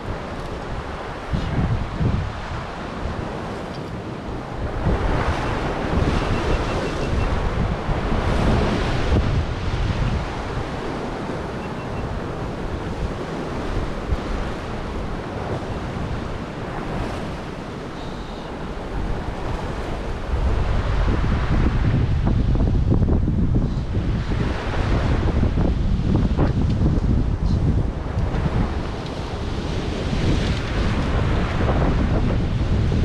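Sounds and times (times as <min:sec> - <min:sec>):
ocean surf washing: 0:00.0 - 0:33.0
wind buffeting microphone: 0:00.0 - 0:33.0.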